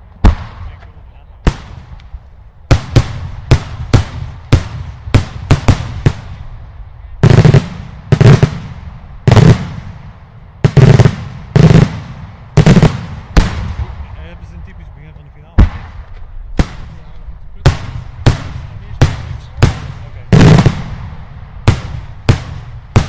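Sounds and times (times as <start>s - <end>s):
heavy firework bangs with rumble: 0.0s - 23.0s.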